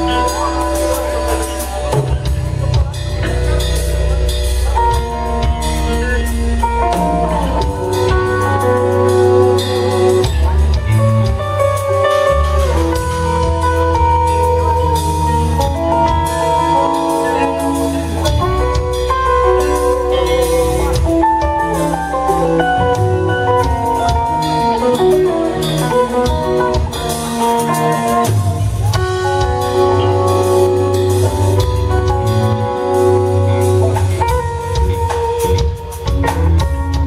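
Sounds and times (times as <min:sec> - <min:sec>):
bass guitar: 0:00.0 - 0:37.0
drum kit: 0:00.0 - 0:37.0
electric guitar lead: 0:00.0 - 0:37.0.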